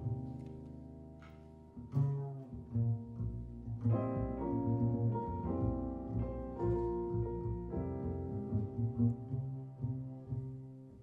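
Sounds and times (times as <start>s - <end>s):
double bass: 0.0s - 11.0s
jazz piano: 0.0s - 11.0s.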